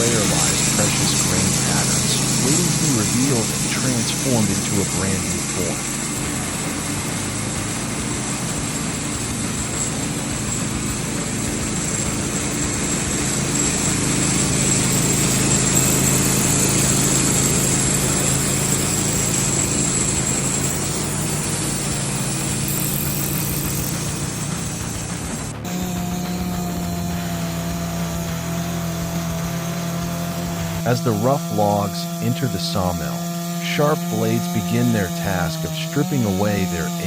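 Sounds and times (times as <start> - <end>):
machine engine running: 0.0 - 37.0
thin high whine: 0.0 - 37.0.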